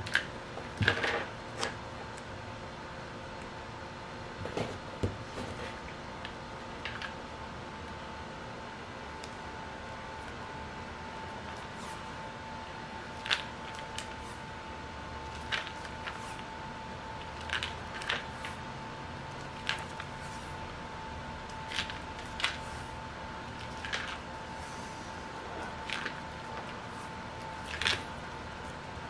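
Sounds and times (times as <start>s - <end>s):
faint hum: 0.0s - 29.0s.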